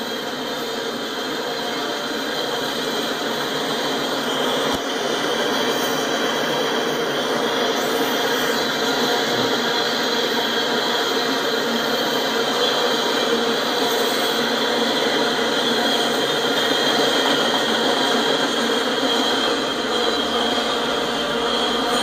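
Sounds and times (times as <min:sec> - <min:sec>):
steel wheels rolling on rail: 0:00.0 - 0:22.0.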